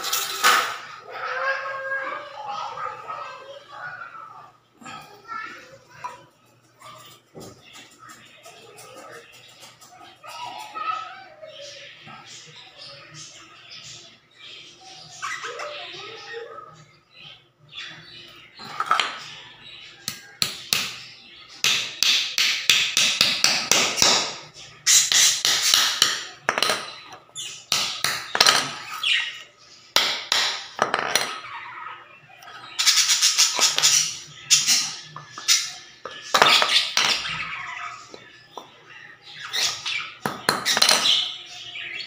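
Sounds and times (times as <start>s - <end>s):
birds chirping and squawking: 0.0s - 42.0s.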